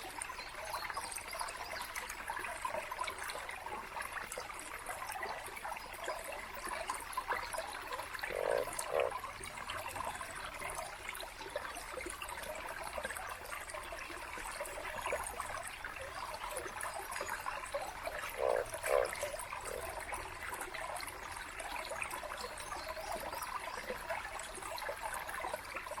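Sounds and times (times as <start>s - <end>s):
stream babbling over rocks: 0.0s - 26.0s.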